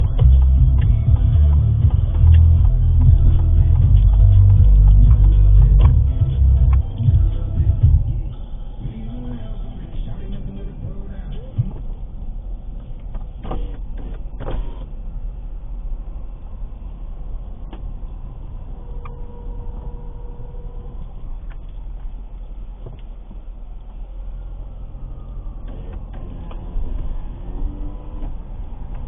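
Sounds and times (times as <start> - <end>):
car road noise: 0.0 - 29.0.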